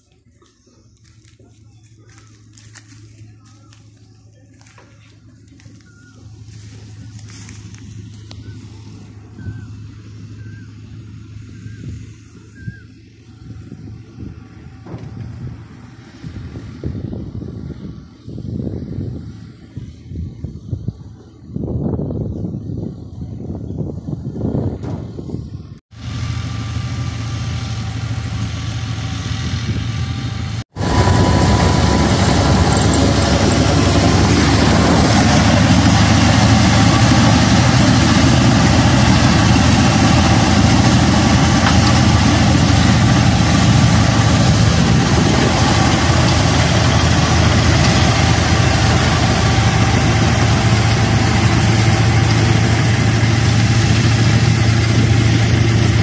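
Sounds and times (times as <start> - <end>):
tractor engine running under load: 0.0 - 21.4, 22.2 - 56.0.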